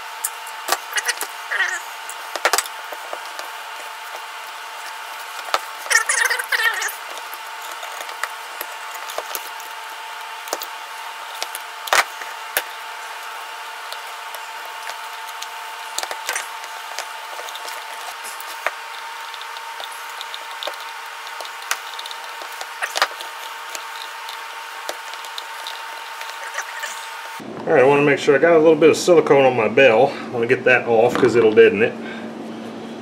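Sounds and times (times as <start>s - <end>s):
steady background hum: 0.0s - 33.0s.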